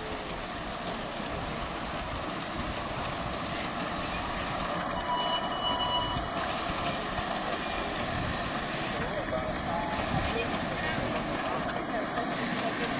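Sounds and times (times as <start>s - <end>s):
miniature steam locomotive running: 0.0s - 12.9s.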